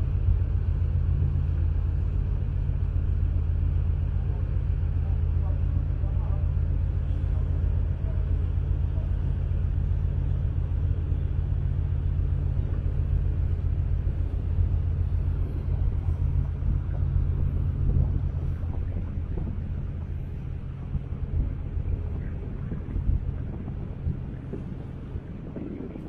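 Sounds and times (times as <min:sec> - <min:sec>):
constant rushing noise: 0:00.0 - 0:26.0
ship engines droning hum: 0:00.0 - 0:26.0.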